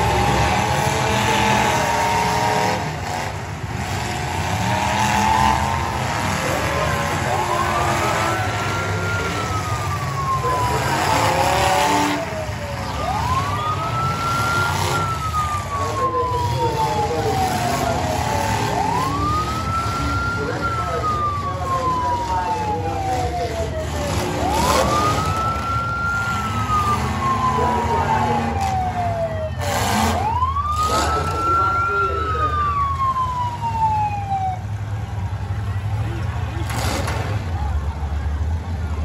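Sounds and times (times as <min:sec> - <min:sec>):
siren wailing: 0:00.0 - 0:34.8
car engines revving: 0:00.0 - 0:39.0.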